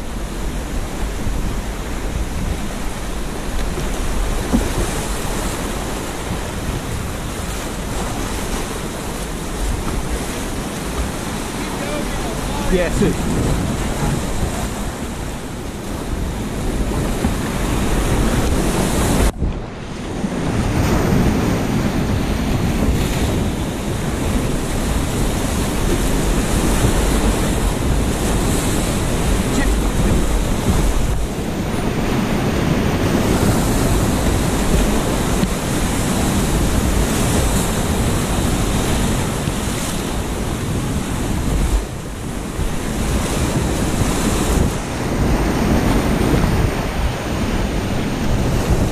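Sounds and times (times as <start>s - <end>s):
whitewater rapids rushing: 0.0s - 48.9s.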